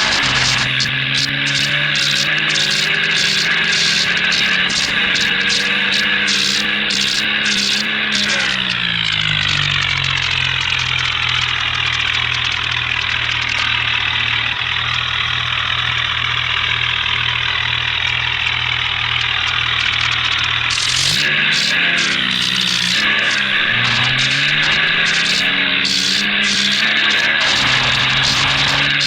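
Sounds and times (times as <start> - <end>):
vehicle engine idling and revving: 0.0 - 29.0.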